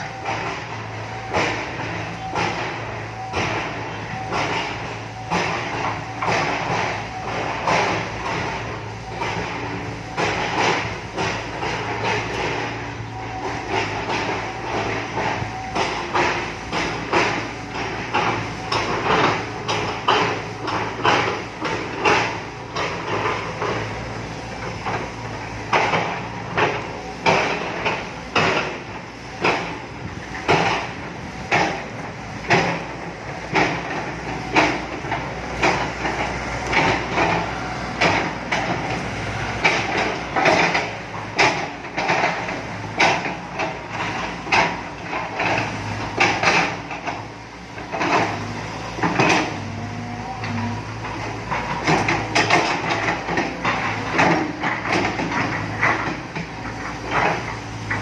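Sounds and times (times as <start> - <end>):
diesel engine humming: 0.0 - 58.0
excavator clanks and knocks: 0.0 - 58.0.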